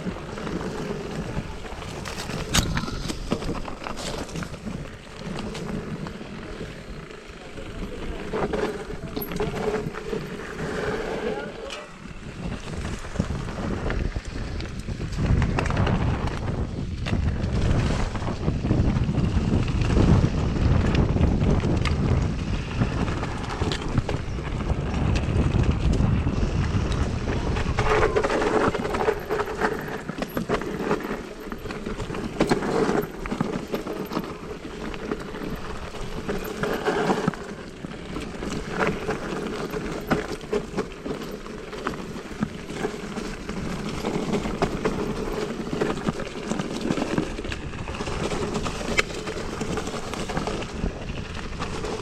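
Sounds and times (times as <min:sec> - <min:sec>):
bike tyres rattling and rumbling: 0:00.0 - 0:52.0
wind buffeting microphone: 0:00.0 - 0:52.0.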